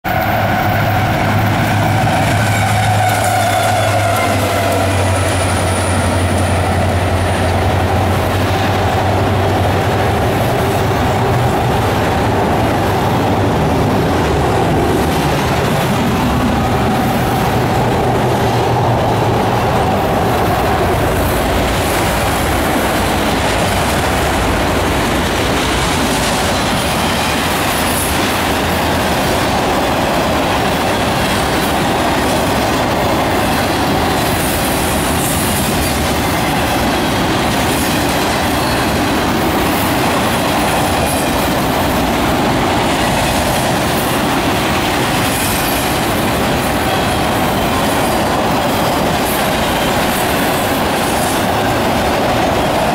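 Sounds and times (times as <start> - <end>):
steel wheels running on rails: 0.0 - 52.9.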